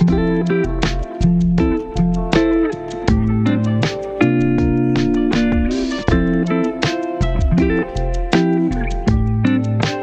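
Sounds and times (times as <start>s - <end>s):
plucked guitar music with beat: 0.0s - 10.0s.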